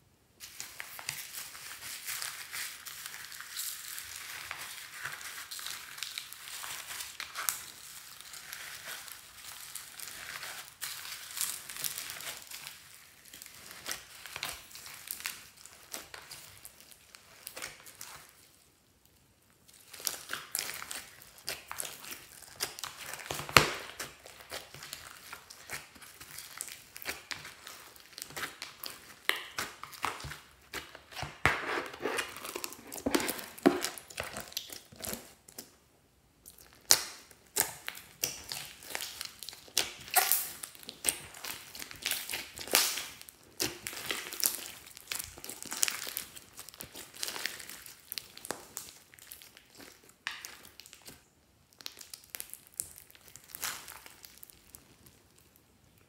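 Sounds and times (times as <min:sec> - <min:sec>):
hands squishing slime: 0:00.4 - 0:18.5, 0:19.7 - 0:35.7, 0:36.4 - 0:51.2, 0:51.8 - 0:55.2.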